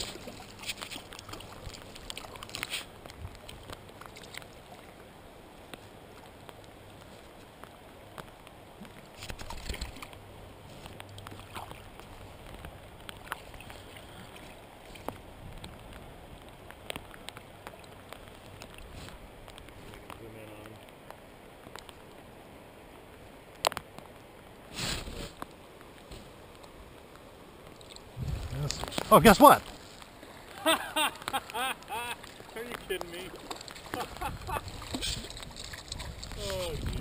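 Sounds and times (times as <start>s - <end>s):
stream water splashing around net: 0.0s - 20.8s, 23.2s - 37.0s
low flow of brook: 0.0s - 37.0s.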